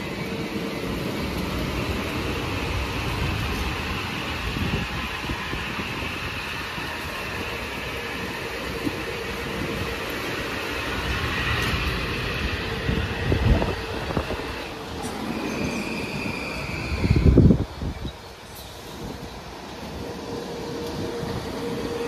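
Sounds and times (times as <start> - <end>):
high-pitched whine: 0.0 - 22.0
train wheels rumbling on rails: 0.0 - 22.0.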